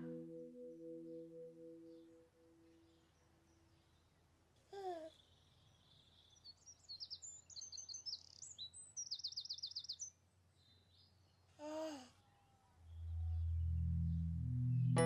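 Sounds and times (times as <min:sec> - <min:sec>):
bird chirping: 0:00.0 - 0:04.3, 0:05.1 - 0:11.6, 0:12.2 - 0:15.0.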